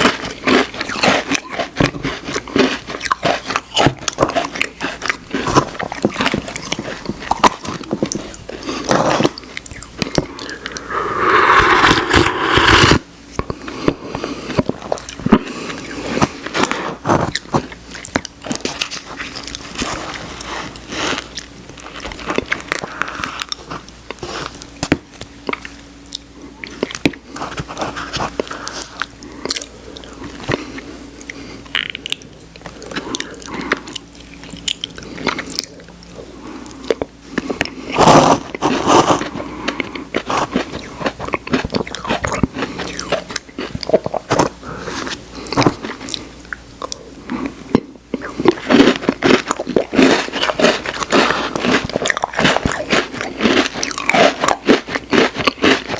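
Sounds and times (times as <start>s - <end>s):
chewing and crunching: 0.0s - 55.9s.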